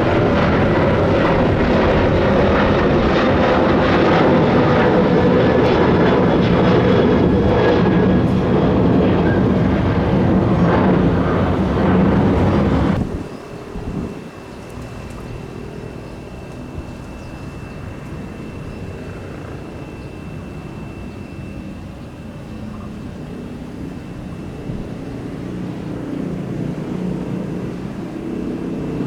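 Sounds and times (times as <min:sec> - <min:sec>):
distant jet engines rumbling: 0:00.0 - 0:29.0
faint high whine: 0:00.0 - 0:29.0.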